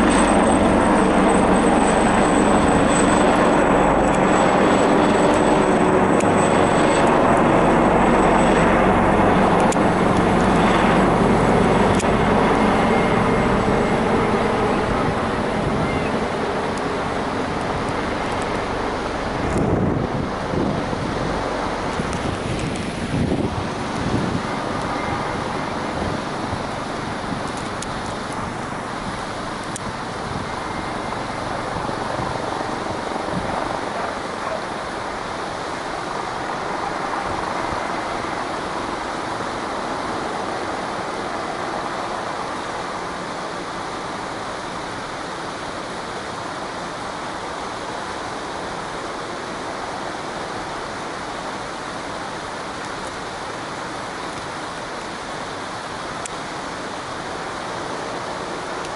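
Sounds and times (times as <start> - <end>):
helicopter flying low: 0.0 - 58.9.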